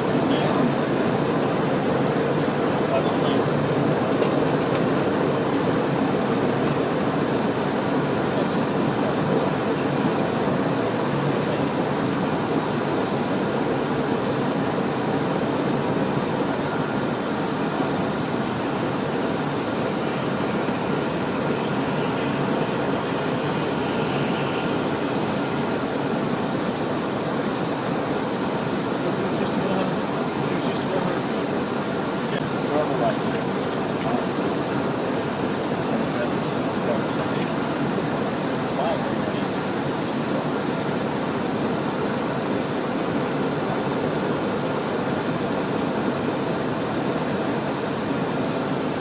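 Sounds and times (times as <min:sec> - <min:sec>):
airflow rush in cockpit: 0:00.0 - 0:49.0
jet engines humming: 0:00.0 - 0:49.0.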